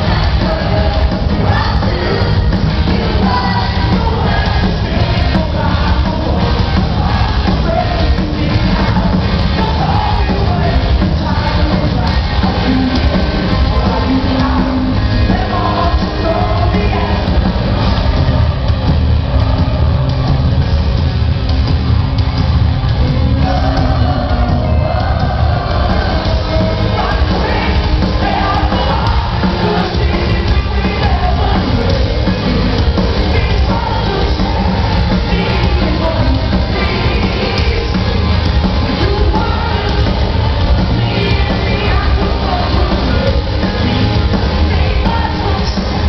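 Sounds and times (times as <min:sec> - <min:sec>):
lead vocal singing: 0:00.0 - 0:20.3, 0:22.8 - 0:46.0
live rock band playing: 0:00.0 - 0:46.0.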